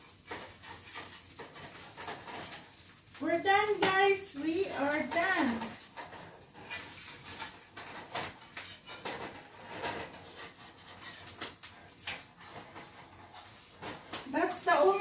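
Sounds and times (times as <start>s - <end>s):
spatula scraping frying pan: 0.0s - 15.0s.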